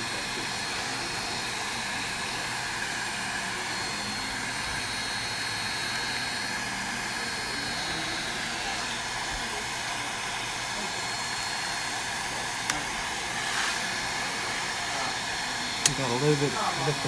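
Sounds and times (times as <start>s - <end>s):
heat gun blowing air: 0.0s - 17.0s.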